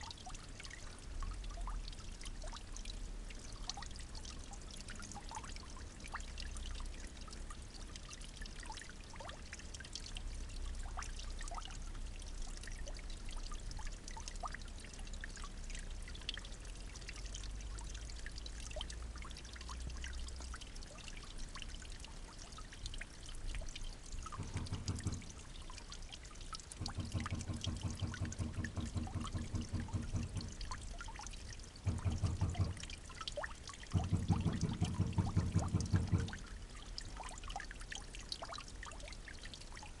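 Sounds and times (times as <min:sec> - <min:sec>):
water drips and splashes: 0:00.0 - 0:40.0
water trickling: 0:00.0 - 0:40.0.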